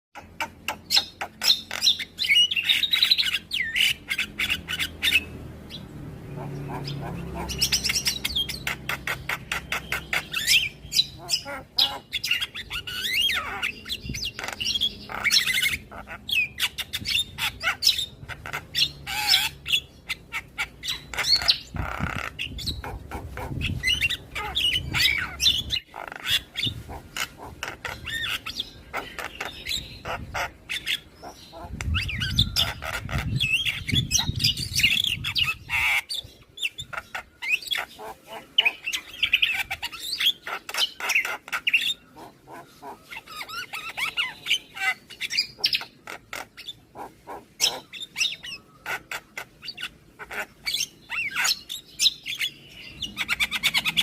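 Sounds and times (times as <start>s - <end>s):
myna bird song: 0.1s - 54.0s.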